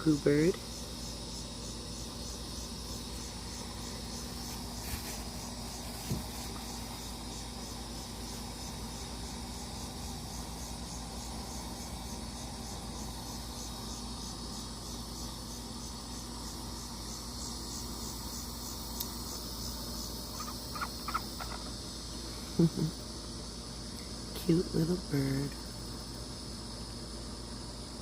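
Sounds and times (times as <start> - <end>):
insects chirping: 0.0 - 28.0
low background hum: 0.0 - 28.0.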